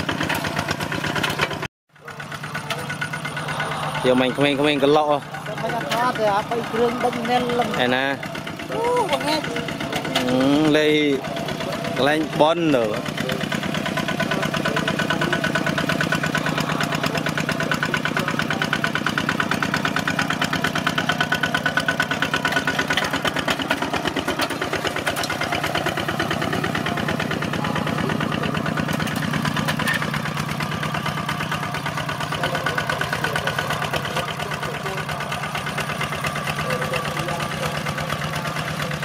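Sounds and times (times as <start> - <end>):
diesel engine chugging: 0.0 - 39.0.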